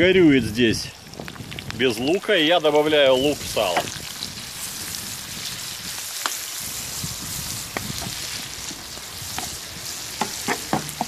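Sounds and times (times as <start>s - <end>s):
onions sizzling in a pan: 0.4s - 11.0s.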